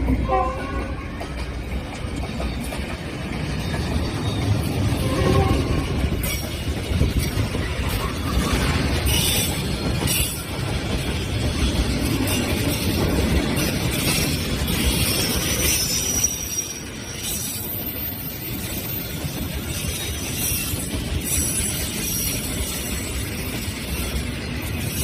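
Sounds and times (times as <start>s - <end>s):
freight train rumbling: 0.0s - 25.0s.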